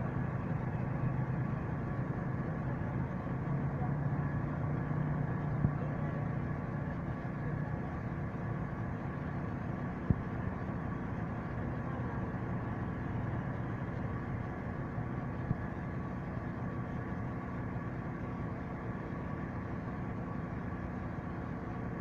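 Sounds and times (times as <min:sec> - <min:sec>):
heavy vehicle engine humming: 0:00.0 - 0:22.0.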